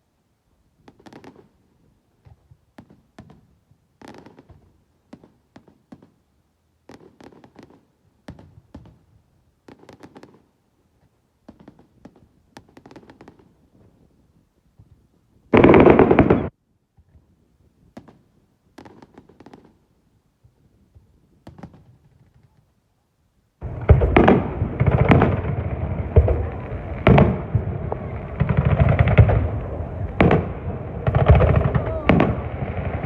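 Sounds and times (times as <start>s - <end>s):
fireworks bangs and crackling: 0.8s - 14.1s, 14.8s - 17.2s, 17.8s - 22.6s, 23.6s - 33.0s.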